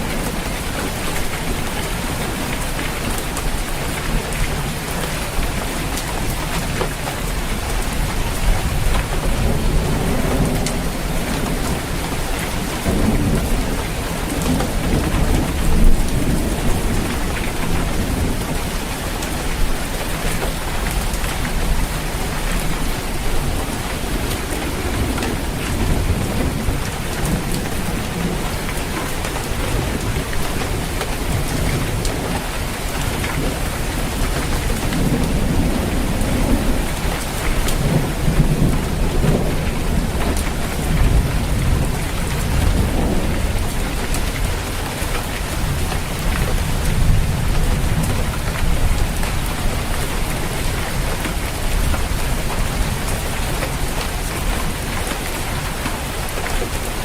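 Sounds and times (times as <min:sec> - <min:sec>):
heavy rain drumming on a roof: 0:00.0 - 0:57.0
rolling thunder: 0:07.6 - 0:56.8.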